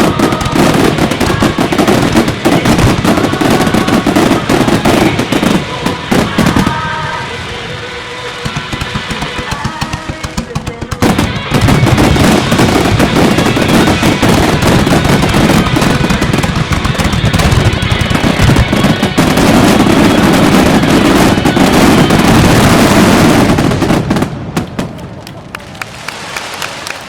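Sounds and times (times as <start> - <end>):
music playing: 0.0 - 23.5
fireworks barrage bangs: 0.0 - 25.2.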